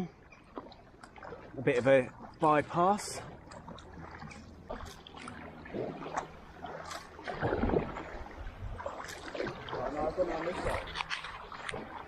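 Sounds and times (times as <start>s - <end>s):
paddle strokes splashing: 0.2s - 12.0s.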